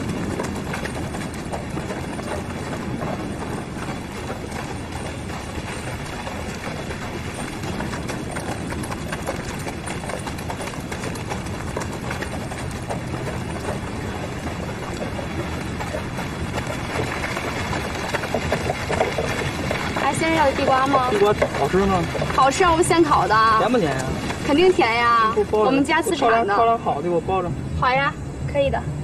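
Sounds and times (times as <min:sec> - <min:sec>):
horses' hooves clip-clopping: 0:00.0 - 0:27.5.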